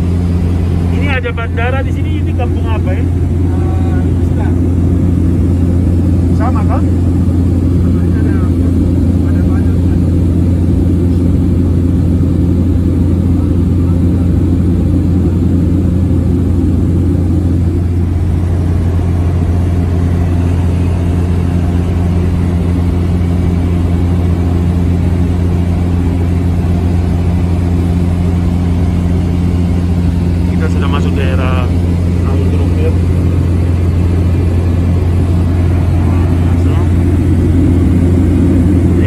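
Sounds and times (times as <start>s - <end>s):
plane engine and propeller drone: 0.0s - 39.0s.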